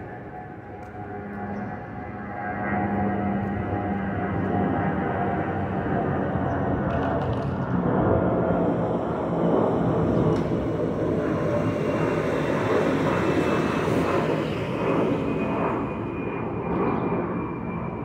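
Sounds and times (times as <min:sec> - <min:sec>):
jet airliner passing overhead: 0:00.0 - 0:18.0.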